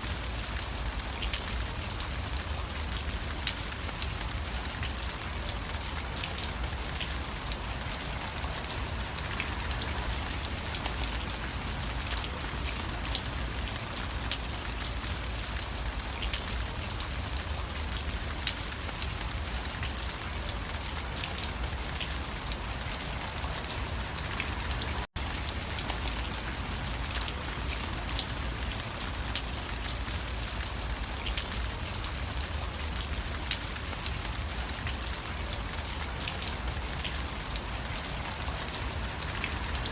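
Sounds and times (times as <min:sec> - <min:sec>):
sharp raindrop ticks: 0:00.0 - 0:39.9
steady rain: 0:00.0 - 0:39.9.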